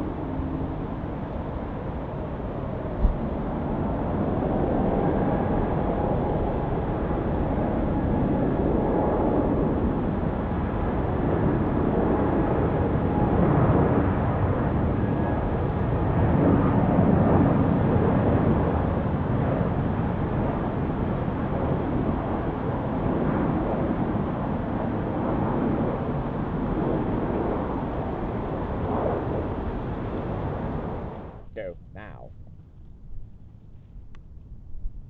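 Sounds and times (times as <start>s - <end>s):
jet engines rushing: 0.0s - 32.2s.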